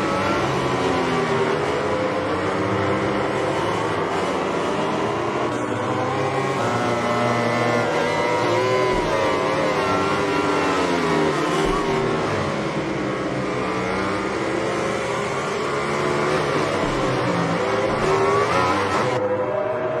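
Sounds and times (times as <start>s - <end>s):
racing motorcycle engines revving: 0.0s - 20.0s.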